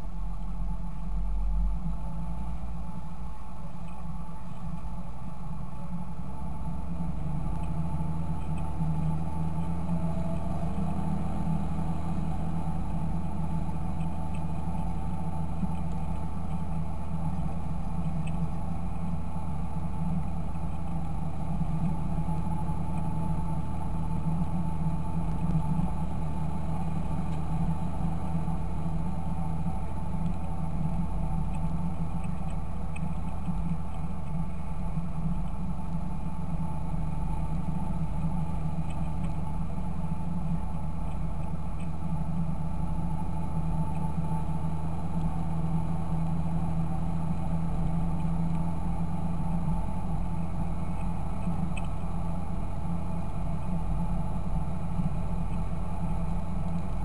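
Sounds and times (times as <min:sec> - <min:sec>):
tractor diesel engine droning: 0:05.0 - 0:57.0.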